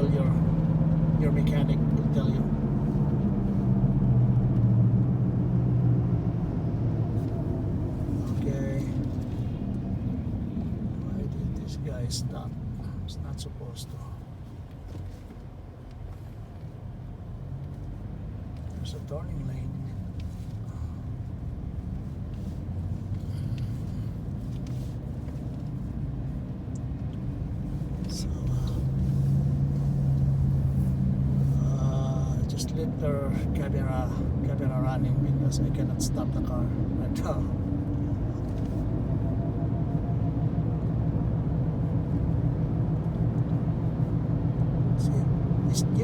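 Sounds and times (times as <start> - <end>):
car cabin drone while driving: 0.0 - 46.0
tyre and road rumble: 0.0 - 46.0.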